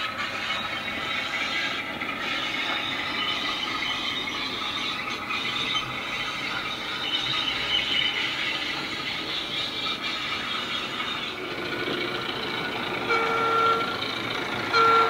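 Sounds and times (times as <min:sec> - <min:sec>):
model diesel engine sound from speaker: 0:00.0 - 0:15.0.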